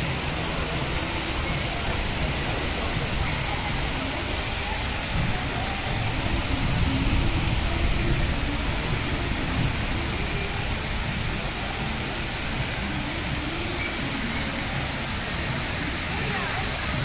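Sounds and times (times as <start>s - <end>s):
faint voices: 0.0s - 17.0s
fountain water splashing: 0.0s - 17.0s.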